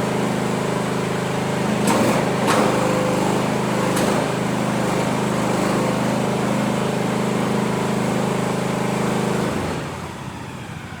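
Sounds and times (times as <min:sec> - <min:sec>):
skid steer engine running: 0:00.0 - 0:11.0.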